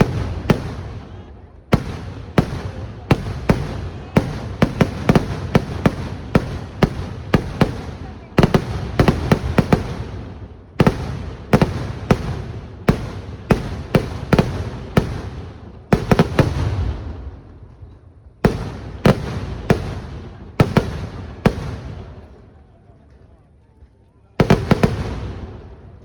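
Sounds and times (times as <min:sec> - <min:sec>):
firework bangs echoing: 0:00.0 - 0:17.5, 0:18.4 - 0:22.3, 0:24.4 - 0:25.9.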